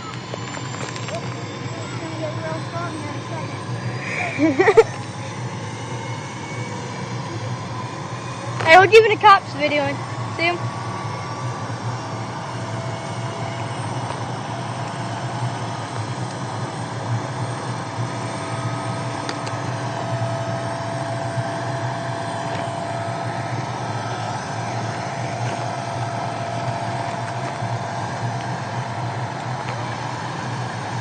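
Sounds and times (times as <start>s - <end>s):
helicopter rotor noise: 0.0s - 31.0s
helicopter turbine whine: 0.0s - 31.0s.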